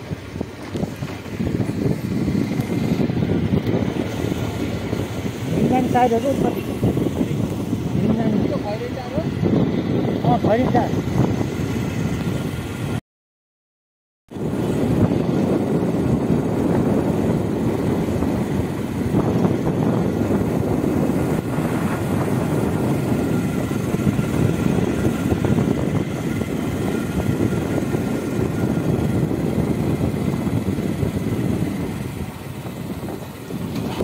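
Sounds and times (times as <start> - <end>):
motorcycle engine drone: 0.0 - 13.0, 14.3 - 34.0
rushing air noise: 0.0 - 13.0, 14.3 - 34.0.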